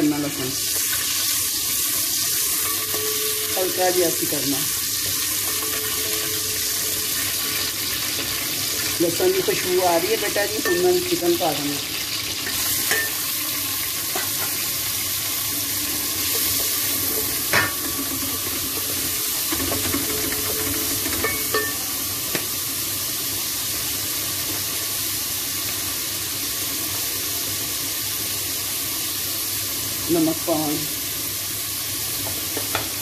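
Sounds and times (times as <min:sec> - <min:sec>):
oil sizzling in a pot: 0:00.0 - 0:33.0.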